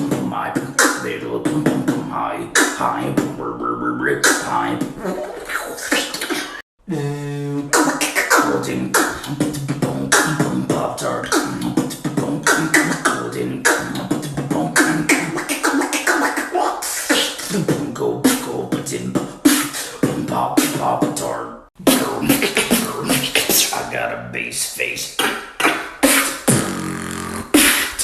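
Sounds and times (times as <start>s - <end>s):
person beatboxing: 0.0s - 28.0s.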